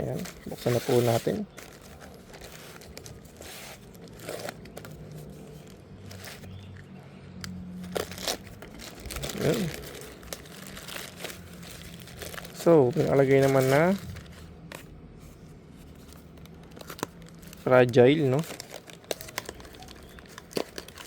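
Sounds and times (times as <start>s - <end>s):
packaging crinkling and rustling: 0.0s - 6.8s, 7.8s - 21.0s.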